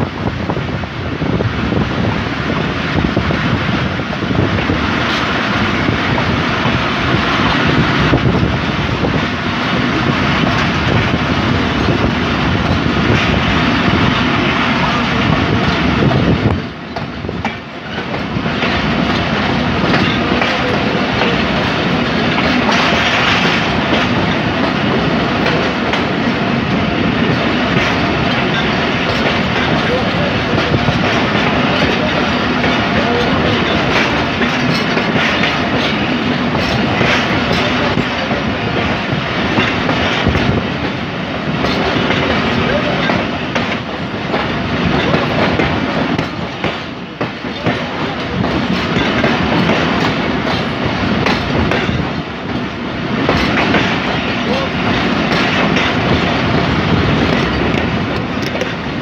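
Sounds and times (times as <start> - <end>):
train wheels clickety-clack on rails: 0.0 - 59.0.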